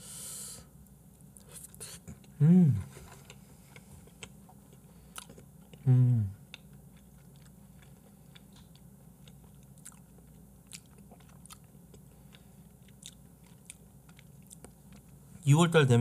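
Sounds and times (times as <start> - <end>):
low steady hum: 0.0 - 16.0
person chewing: 1.3 - 15.2.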